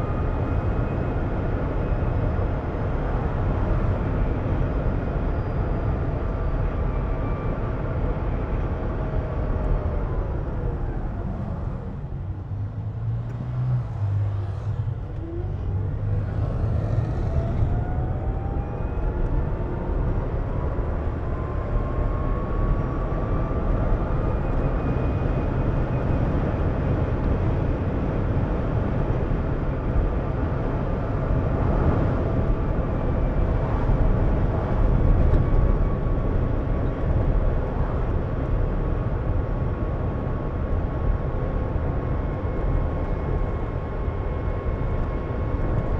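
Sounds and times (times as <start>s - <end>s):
tyres rumbling on road: 0.0s - 45.9s.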